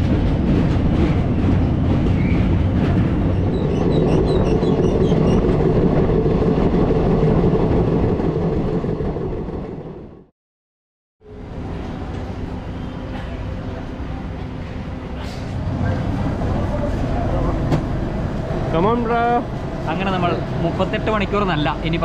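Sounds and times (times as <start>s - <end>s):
train wheels rumbling on rails: 0.0s - 10.3s, 11.4s - 22.0s.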